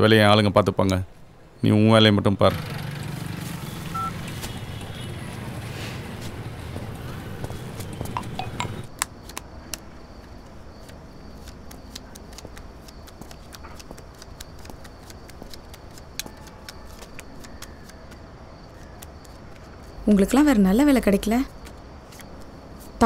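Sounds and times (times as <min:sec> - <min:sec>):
street noise: 0:01.0 - 0:23.0.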